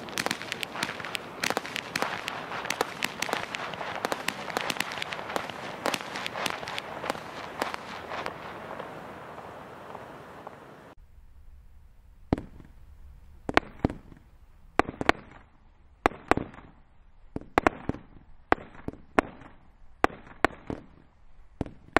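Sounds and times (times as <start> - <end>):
firework bangs: 0.0 - 10.7, 11.3 - 21.9.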